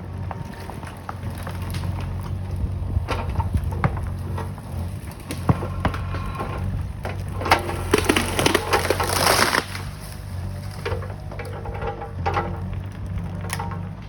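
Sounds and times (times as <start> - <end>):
excavator engine running: 0.0 - 14.0
timber cracking and splintering: 0.0 - 14.0.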